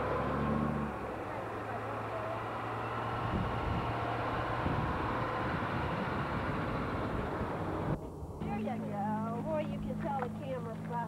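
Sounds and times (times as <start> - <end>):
buses driving past: 0.0 - 11.0.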